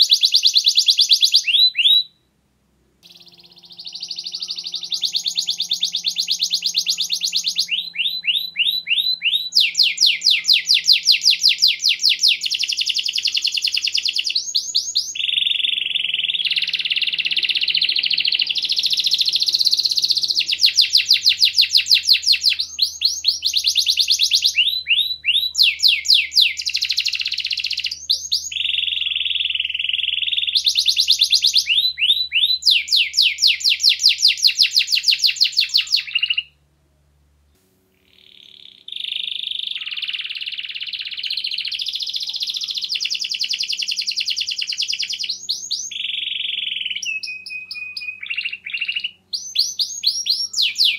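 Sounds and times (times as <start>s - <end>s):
canary singing trills: 0.0s - 2.3s, 3.0s - 36.6s, 37.9s - 50.9s.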